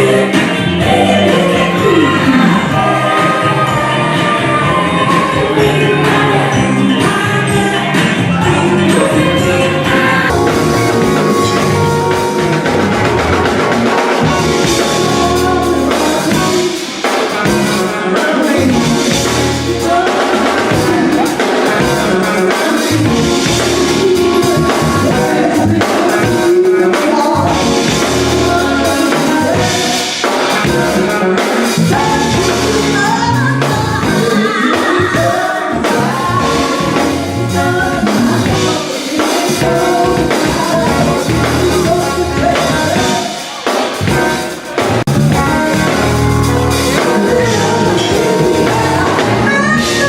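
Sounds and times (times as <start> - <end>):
bass guitar playing: 0.0 - 30.0, 30.6 - 43.3, 44.0 - 50.0
band music with singer: 0.0 - 50.0
drum kit playing: 0.0 - 50.0.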